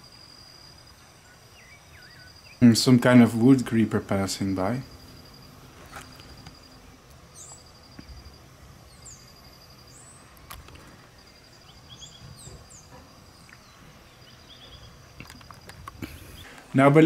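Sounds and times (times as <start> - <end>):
insect trilling: 0.0 - 17.0
small birds chirping: 0.8 - 17.0.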